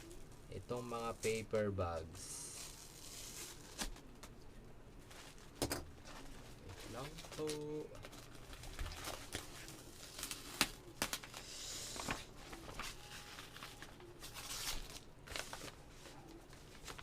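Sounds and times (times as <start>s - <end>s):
paper bags rustling and crinkling: 0.0s - 4.2s, 5.0s - 17.0s.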